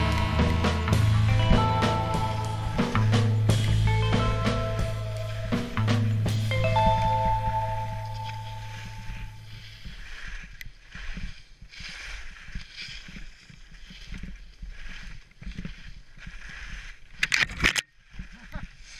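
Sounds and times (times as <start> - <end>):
low rumble: 0.0 - 17.1
skis swishing through snow: 0.0 - 17.3, 17.9 - 18.9.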